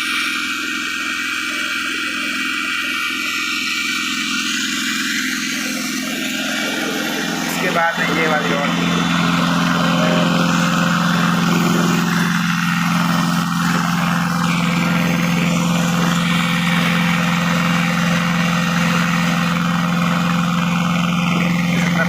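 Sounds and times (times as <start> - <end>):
rock drilling machine humming: 0.0 - 22.0.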